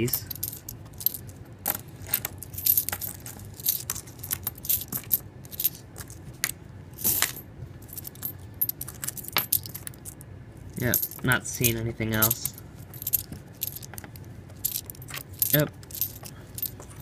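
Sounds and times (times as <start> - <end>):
coins clinking: 0.0 - 6.2, 7.0 - 10.2, 10.8 - 17.0
coins jingling: 0.0 - 6.2, 7.0 - 10.2, 10.8 - 17.0.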